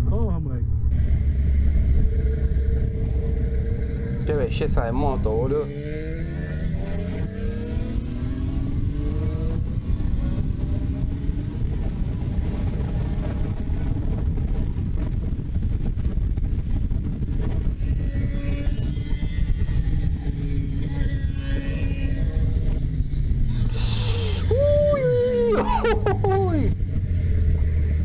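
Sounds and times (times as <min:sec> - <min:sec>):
motorcycle engine accelerating: 0:00.0 - 0:28.0
wind rush on camera: 0:00.0 - 0:28.0.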